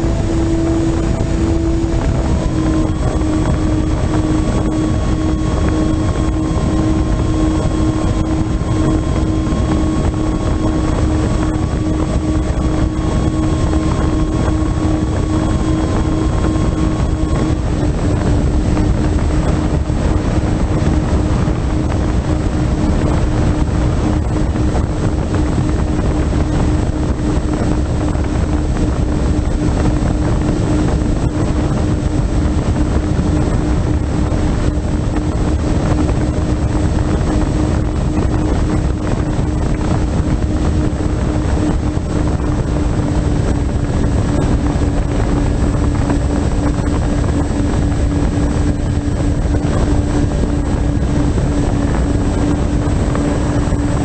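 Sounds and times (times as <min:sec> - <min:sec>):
model aircraft motor humming: 0:00.0 - 0:54.0
wind rush: 0:00.0 - 0:54.0.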